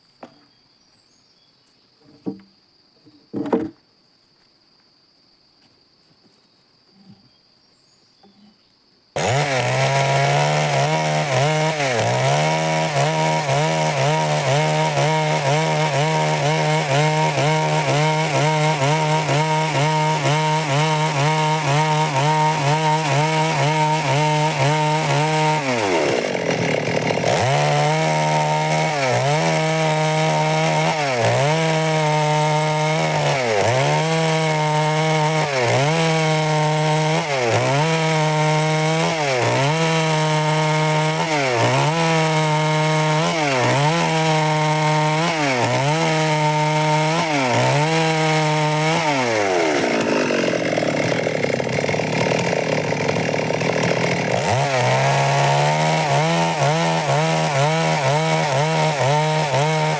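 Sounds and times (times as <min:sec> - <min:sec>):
chainsaw cutting wood: 0:02.1 - 0:02.6, 0:03.3 - 0:03.8, 0:09.2 - 0:59.9.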